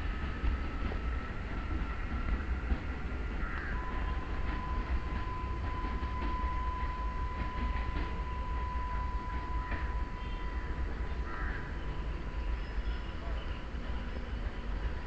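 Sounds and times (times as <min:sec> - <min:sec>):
distant electric train: 0:00.0 - 0:15.0.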